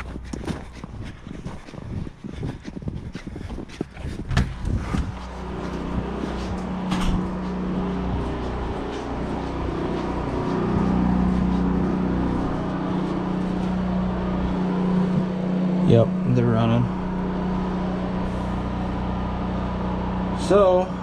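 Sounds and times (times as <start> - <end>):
electric pump hum: 0.0 - 21.0.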